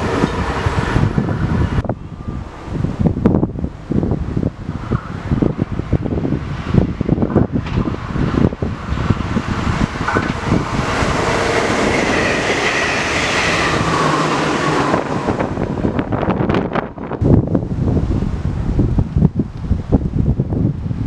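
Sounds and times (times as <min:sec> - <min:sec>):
train wheels rushing on rails: 0:00.0 - 0:17.7
train whine: 0:00.0 - 0:19.1
wind buffeting microphone: 0:00.0 - 0:21.0.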